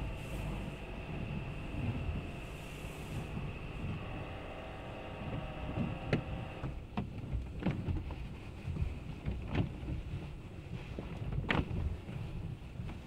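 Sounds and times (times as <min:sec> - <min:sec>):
water and brushes rushing over car: 0:00.0 - 0:13.0.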